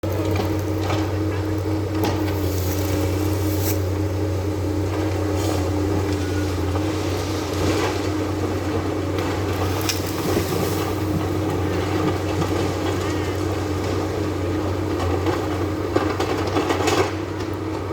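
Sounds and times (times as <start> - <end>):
machine engine humming: 0.0 - 17.9.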